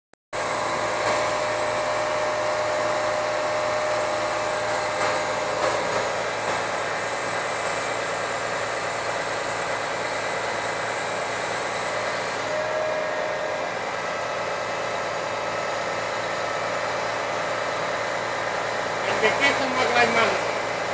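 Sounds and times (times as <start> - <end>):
concrete pump running: 0.4 - 20.9
steady mechanical whine: 0.4 - 20.9.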